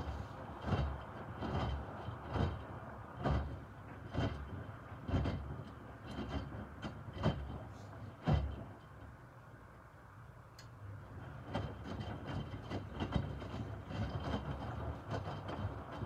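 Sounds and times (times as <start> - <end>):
washing machine drum tumbling: 0.0 - 8.8, 11.2 - 16.0.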